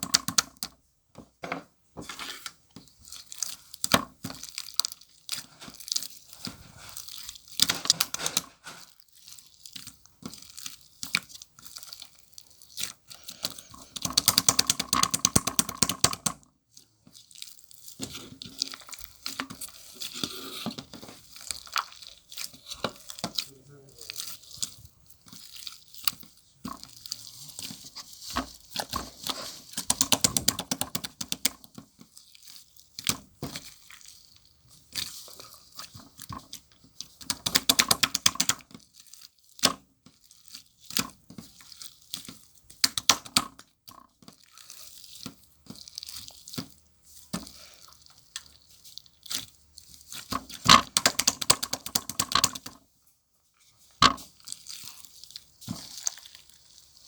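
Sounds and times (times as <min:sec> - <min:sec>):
slime squished by hand: 0:02.2 - 0:52.8, 0:53.8 - 0:57.0.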